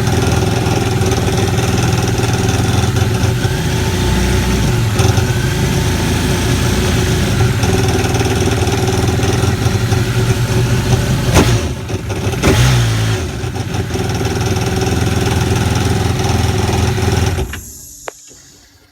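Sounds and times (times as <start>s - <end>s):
jet ski engine idling: 0.0s - 18.3s.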